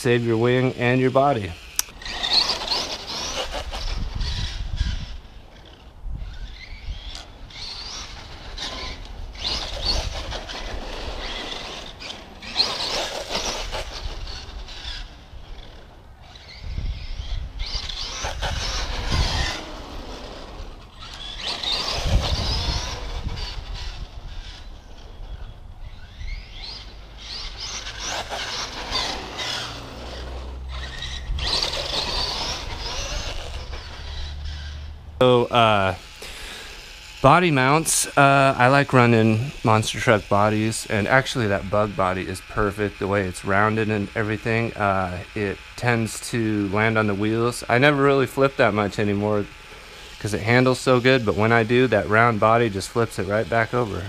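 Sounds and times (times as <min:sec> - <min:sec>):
electric motor whine: 0:00.0 - 0:54.0
tyre noise on asphalt: 0:00.0 - 0:54.0.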